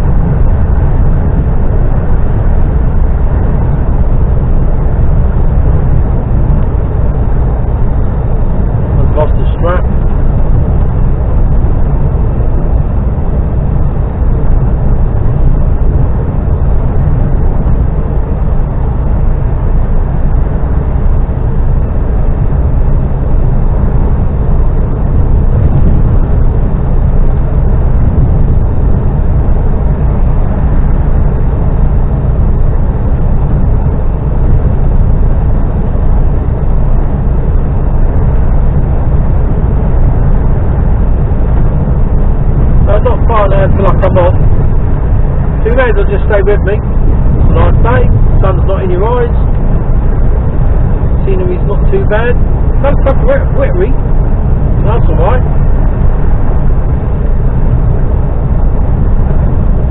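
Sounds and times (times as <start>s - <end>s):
lorry cab engine and road drone: 0.0s - 59.9s.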